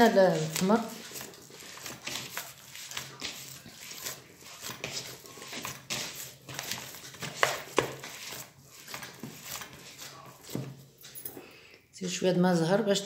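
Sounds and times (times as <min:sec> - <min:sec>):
hands kneading sticky paste: 0:00.0 - 0:10.6.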